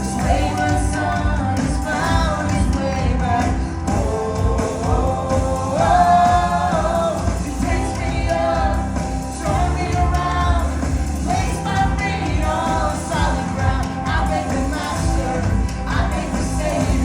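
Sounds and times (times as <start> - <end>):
full band playing: 0.0 - 17.0
people singing: 0.0 - 17.0.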